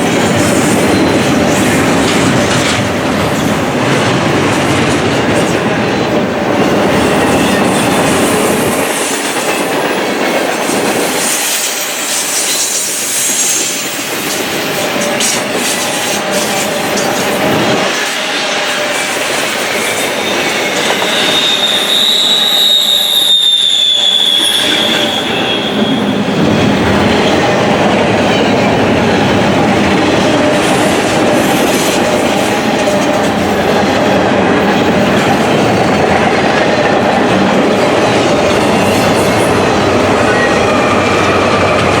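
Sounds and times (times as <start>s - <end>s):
train wheel squeal: 0.0s - 3.6s, 6.8s - 42.0s
train wheels rumbling on rails: 0.0s - 42.0s.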